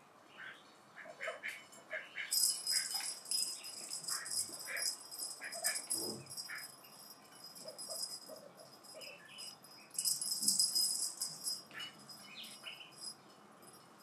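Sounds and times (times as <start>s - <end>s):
toy jingling and rattling: 1.7s - 14.0s.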